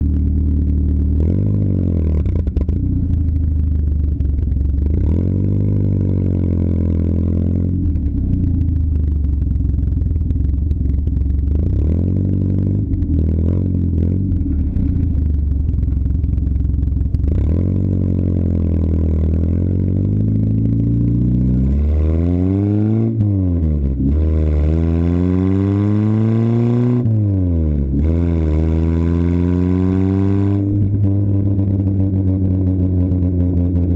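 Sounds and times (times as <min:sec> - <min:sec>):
car engine revving through exhaust: 0:00.0 - 0:33.9.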